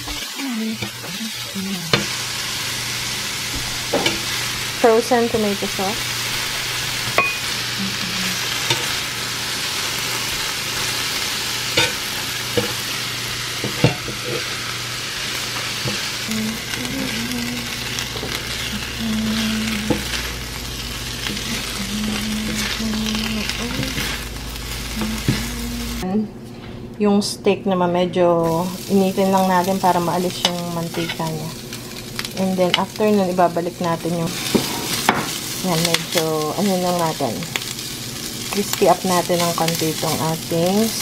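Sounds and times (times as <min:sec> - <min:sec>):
vegetables sizzling on a griddle: 0:00.0 - 0:26.0, 0:28.4 - 0:41.0.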